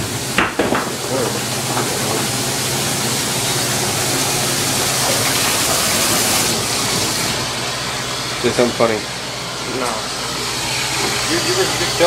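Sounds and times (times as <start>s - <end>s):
low machine hum: 0.0s - 12.0s
water spraying: 0.0s - 12.0s.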